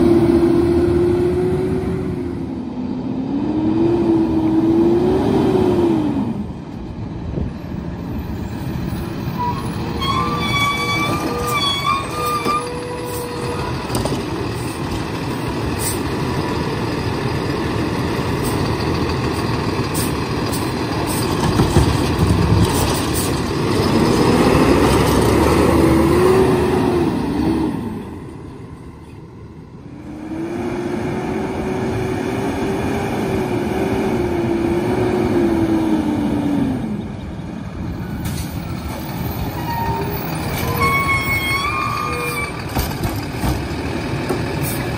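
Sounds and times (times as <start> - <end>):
garbage truck diesel engine: 0.0 - 44.9.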